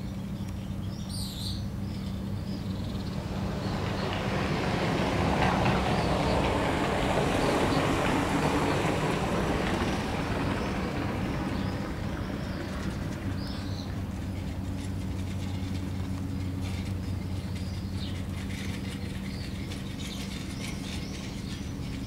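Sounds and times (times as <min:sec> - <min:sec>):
small birds chirping: 0:00.0 - 0:08.2, 0:08.8 - 0:22.0
low engine drone: 0:00.0 - 0:22.0
passing vehicle rush: 0:02.6 - 0:21.8.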